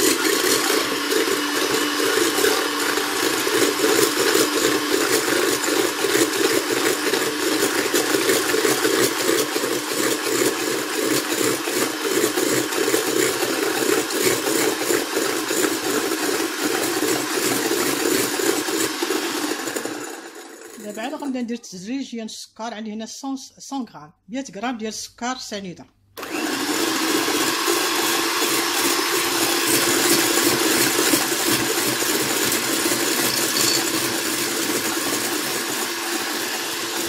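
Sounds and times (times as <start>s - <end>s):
electric mixer whirring: 0.0s - 21.2s, 26.2s - 37.0s.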